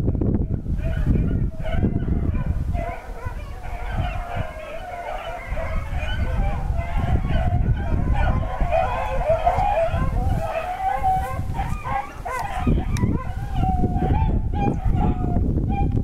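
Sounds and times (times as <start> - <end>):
pack of dogs baying: 0.4 - 15.9.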